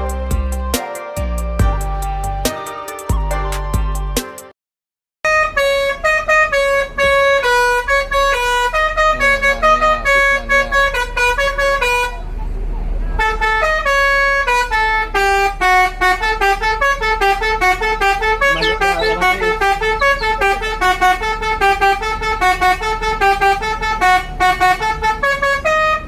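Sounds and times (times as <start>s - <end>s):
multi-tone bus horn tune: 0.0s - 3.8s, 5.2s - 26.0s.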